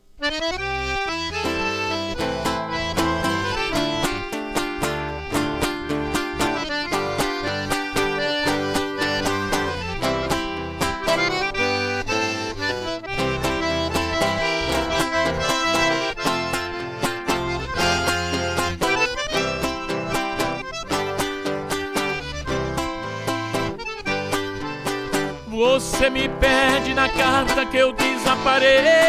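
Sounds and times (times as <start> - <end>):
accordion melody: 0.0 - 29.0
strummed string accompaniment: 0.2 - 29.0.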